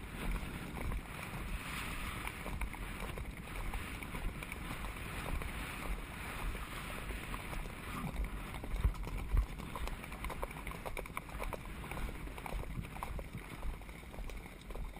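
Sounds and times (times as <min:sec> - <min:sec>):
hooves on dirt track: 0:00.0 - 0:14.9
wind rumble on microphone: 0:00.0 - 0:14.9.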